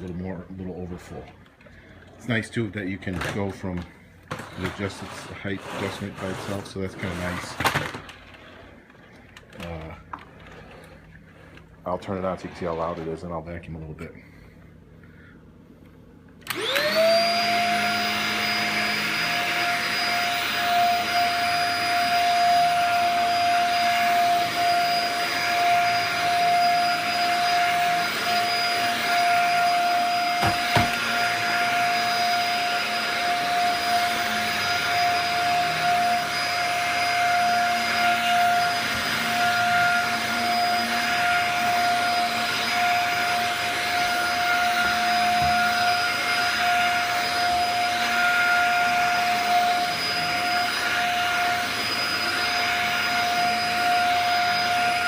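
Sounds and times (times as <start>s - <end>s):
vacuum cleaner whining: 0.0s - 14.4s, 16.3s - 55.0s.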